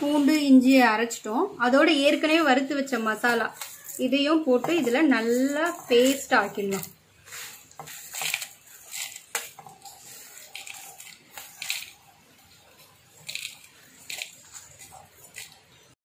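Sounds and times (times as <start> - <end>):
dry spices rattling and scraping: 2.0 - 16.0.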